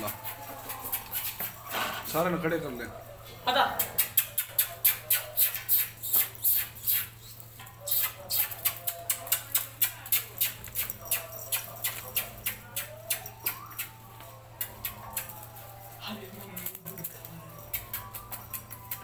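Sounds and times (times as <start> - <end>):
puppies whining and squeaking: 0.0 - 2.3, 3.8 - 19.0.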